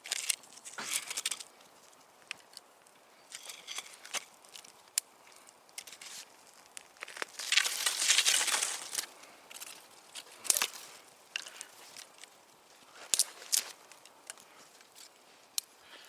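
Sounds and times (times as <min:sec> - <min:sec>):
rustling crunch of twigs: 0:00.0 - 0:16.0
twigs snapping and crackling: 0:00.0 - 0:16.0.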